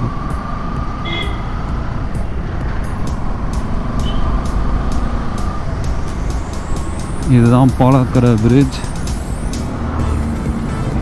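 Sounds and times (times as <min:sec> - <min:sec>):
motorcycle engine and road rumble: 0:00.0 - 0:11.0.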